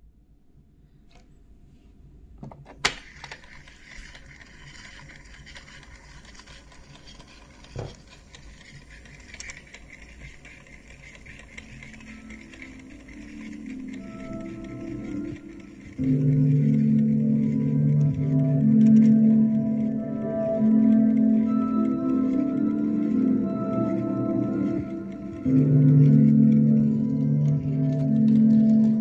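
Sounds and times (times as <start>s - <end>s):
tape transport whirring hiss: 2.8s - 29.0s
faint musical tones: 3.2s - 29.0s.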